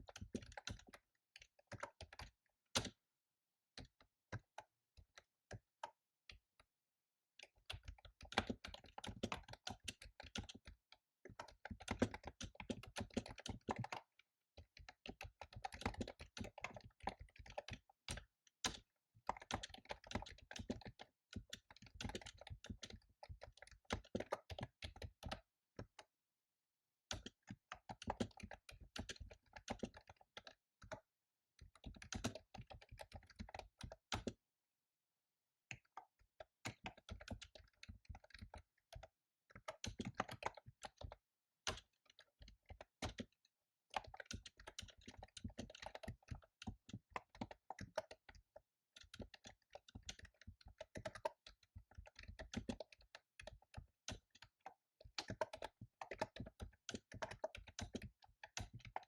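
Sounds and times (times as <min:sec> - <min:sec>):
fast typing on keyboard: 0:00.0 - 0:03.0, 0:03.8 - 0:06.5, 0:07.4 - 0:26.2, 0:27.1 - 0:34.5, 0:35.7 - 0:59.0.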